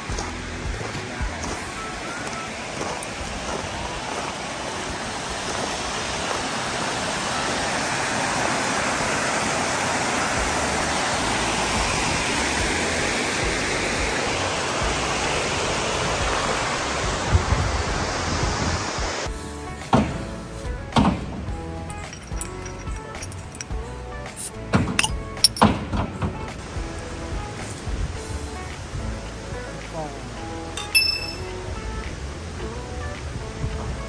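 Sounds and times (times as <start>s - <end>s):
stream rushing over rocks: 0.0s - 19.3s, 21.8s - 25.7s, 26.5s - 34.0s.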